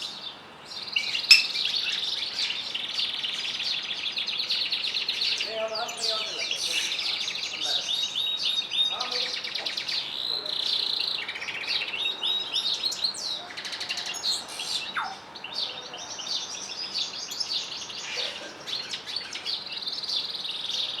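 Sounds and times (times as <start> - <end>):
songbirds trilling: 0.0 - 21.0.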